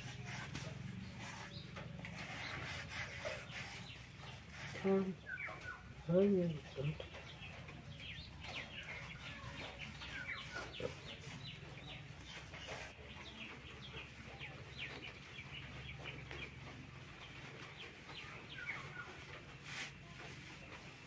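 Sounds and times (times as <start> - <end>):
chickens clucking and chirping: 0.0 - 21.0.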